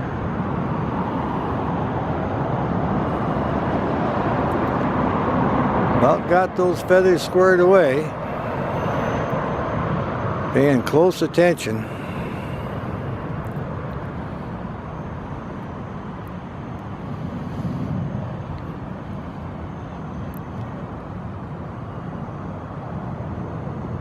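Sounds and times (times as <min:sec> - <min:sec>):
distant road traffic rumble: 0:00.0 - 0:24.0.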